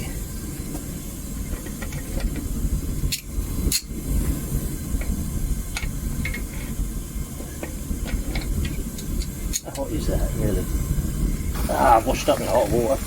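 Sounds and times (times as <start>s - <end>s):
propane burner flame roaring: 0.0s - 13.0s.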